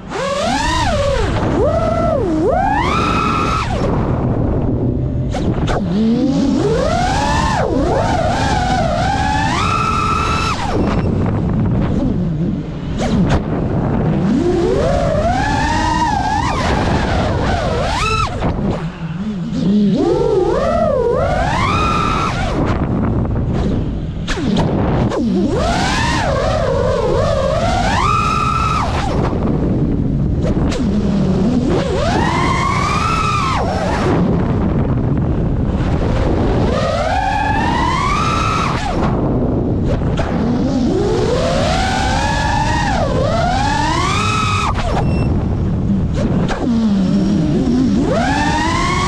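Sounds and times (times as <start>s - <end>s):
drone motors whining: 0.0s - 49.0s
wind rush: 0.0s - 49.0s.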